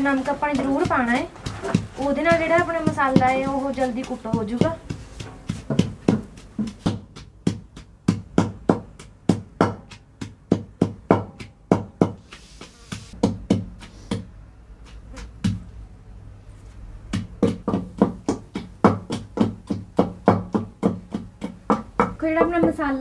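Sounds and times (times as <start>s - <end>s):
wooden pestle thudding in mortar: 0.0s - 15.8s, 17.0s - 23.0s.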